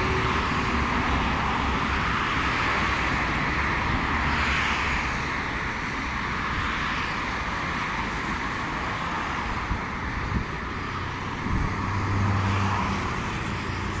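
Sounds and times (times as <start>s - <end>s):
city traffic noise: 0.0s - 14.0s.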